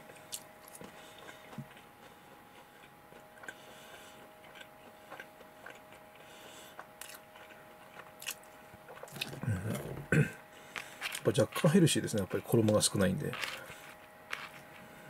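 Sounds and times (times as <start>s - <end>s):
person chewing food: 0.0s - 12.3s, 13.4s - 15.0s
faint steady hum: 0.0s - 15.0s.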